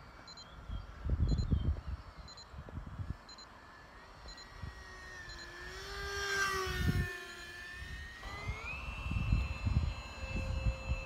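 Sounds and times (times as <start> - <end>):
model jet electric motor whining: 0.9 - 11.0.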